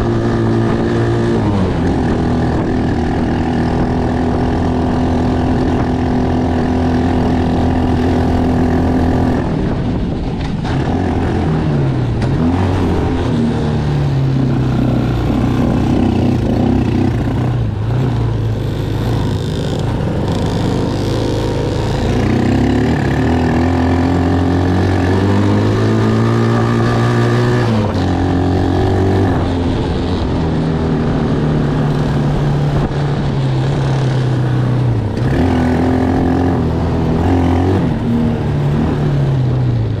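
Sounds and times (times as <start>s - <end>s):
atv engine revving: 0.0s - 40.0s
dirt bike engine: 0.0s - 40.0s.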